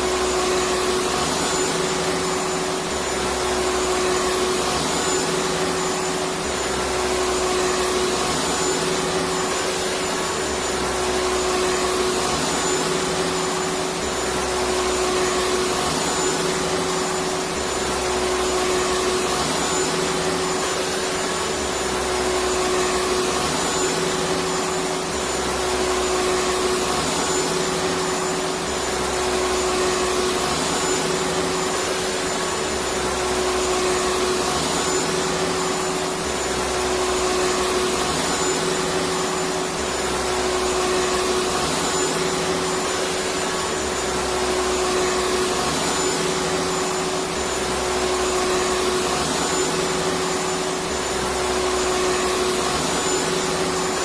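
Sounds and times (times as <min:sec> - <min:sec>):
vacuum cleaner whining hiss: 0:00.0 - 0:54.0.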